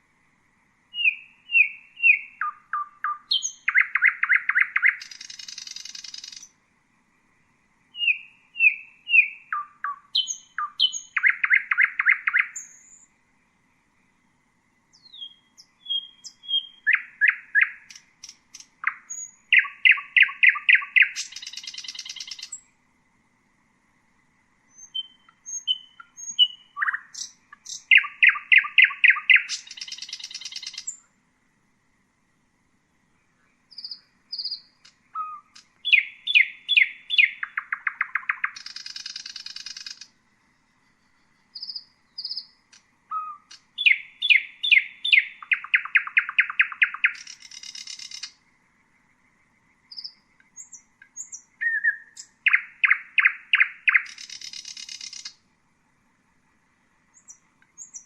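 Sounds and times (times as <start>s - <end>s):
nightingale singing: 0.8s - 22.8s, 24.0s - 31.2s, 33.0s - 55.6s, 56.4s - 58.0s.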